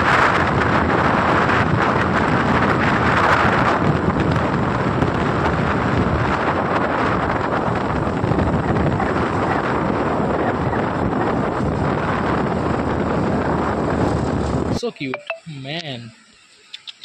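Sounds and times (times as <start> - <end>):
scooter engine running: 0.0 - 14.4
wind rushing over microphone: 0.0 - 14.8
road noise: 0.0 - 17.0.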